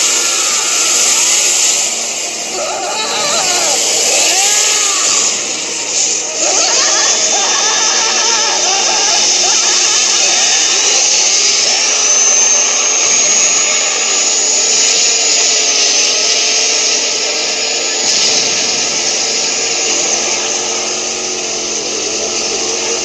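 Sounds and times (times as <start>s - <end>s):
chainsaw engine running hard: 0.0s - 23.0s.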